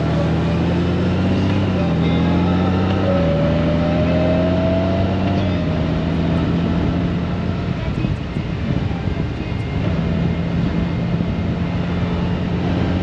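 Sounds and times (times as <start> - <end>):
motorcycle engine at road speed: 0.0 - 13.0
wind and road noise: 0.0 - 13.0.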